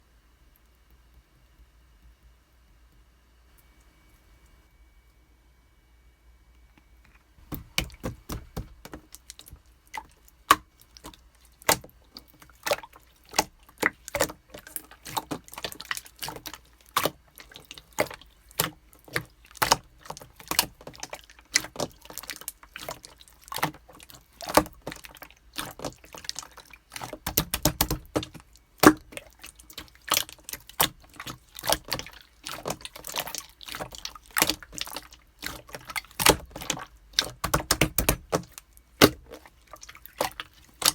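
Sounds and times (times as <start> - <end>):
wet slime clicks and bubble pops: 7.4 - 40.9.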